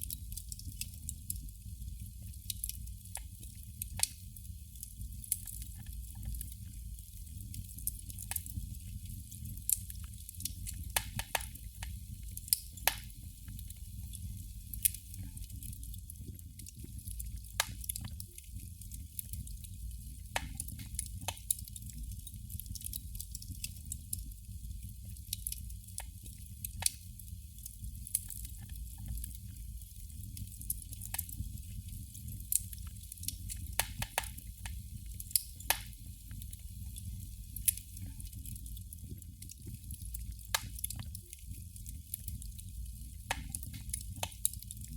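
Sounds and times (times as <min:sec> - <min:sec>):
candle flame crackling: 0:00.0 - 0:44.9.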